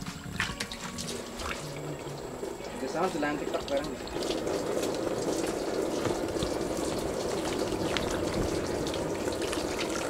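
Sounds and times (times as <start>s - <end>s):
rushing water: 0.0s - 10.0s
water splashing and dripping: 0.0s - 10.0s.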